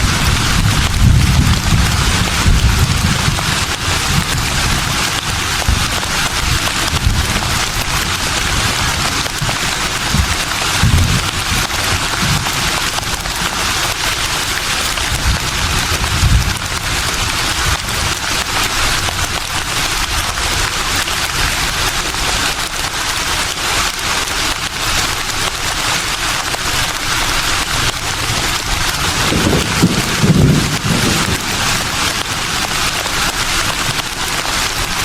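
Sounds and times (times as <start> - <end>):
leaves rustling in a breeze: 0.0 - 35.0.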